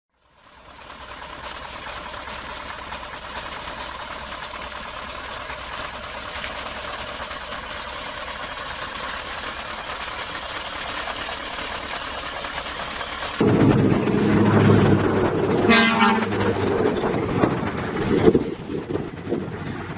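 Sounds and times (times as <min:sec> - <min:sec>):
heavy truck engines running: 0:00.2 - 0:19.9.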